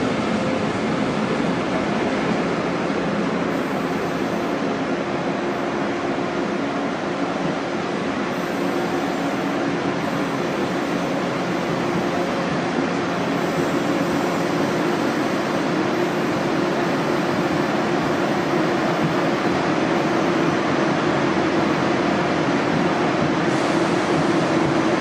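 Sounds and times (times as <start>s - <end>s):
train rushing: 0.0s - 25.0s.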